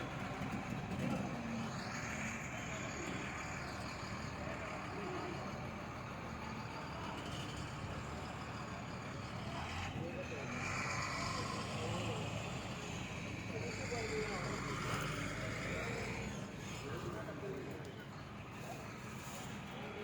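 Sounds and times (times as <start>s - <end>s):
rumble of motor vehicles: 0.0s - 20.0s.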